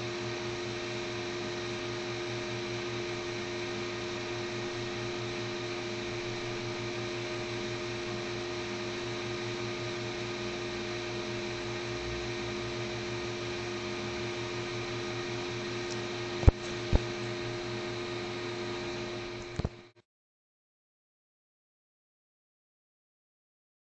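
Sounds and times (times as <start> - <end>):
steady hum and hiss: 0.0 - 19.9.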